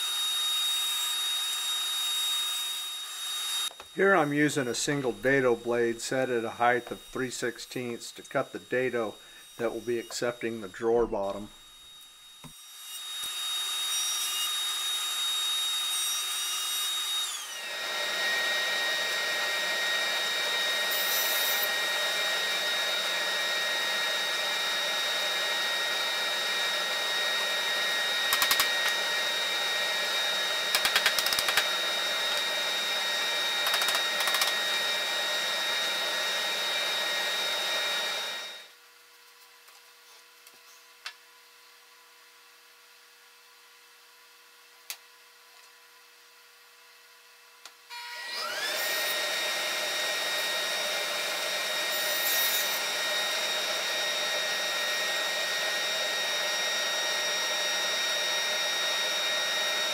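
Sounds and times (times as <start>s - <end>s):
table saw whirring: 0.0s - 38.7s, 47.9s - 59.9s.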